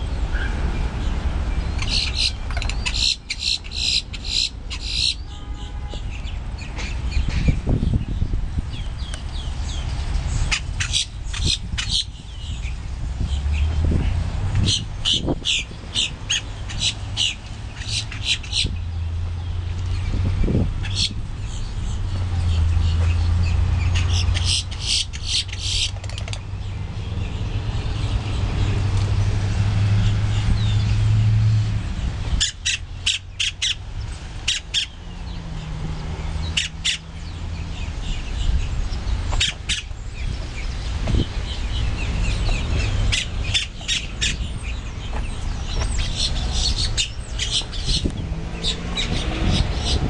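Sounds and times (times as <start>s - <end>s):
birds clicking calls: 0.0s - 50.0s.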